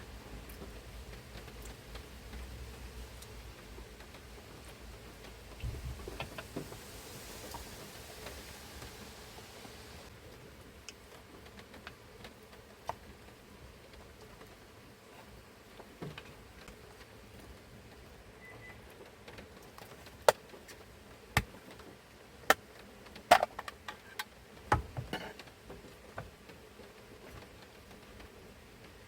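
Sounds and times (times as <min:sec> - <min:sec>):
faint background hiss: 0:00.0 - 0:29.0.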